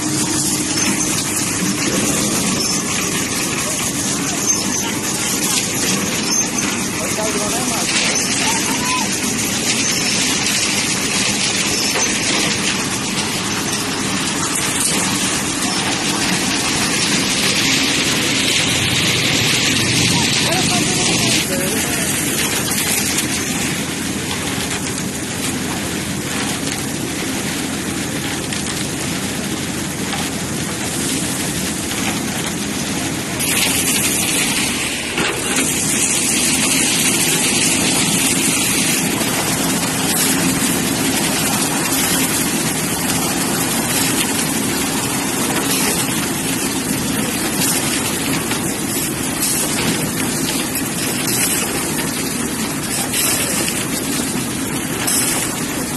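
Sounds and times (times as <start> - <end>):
concrete machinery engine running: 0.0 - 55.9
wet concrete sliding down metal chute: 0.0 - 55.9.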